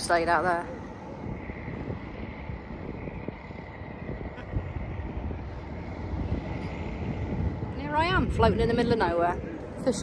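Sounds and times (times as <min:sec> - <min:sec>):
faint high whine: 0:00.0 - 0:10.0
wind buffeting microphone: 0:00.0 - 0:10.0.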